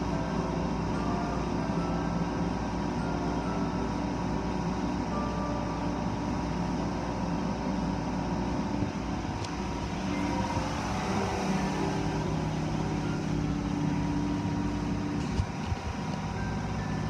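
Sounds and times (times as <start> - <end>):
car wash machine hum: 0.0 - 17.0.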